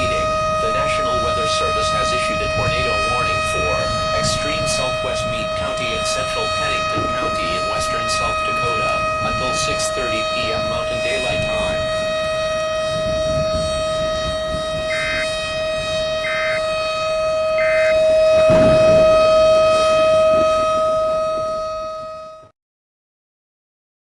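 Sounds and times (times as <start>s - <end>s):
warning siren steady tone: 0.0s - 22.5s.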